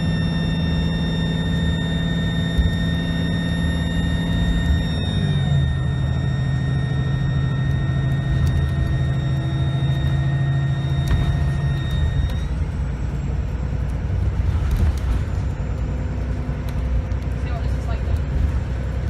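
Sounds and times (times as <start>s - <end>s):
diesel bus engine rumble: 0.0s - 19.0s
turbocharger whine: 0.0s - 19.0s.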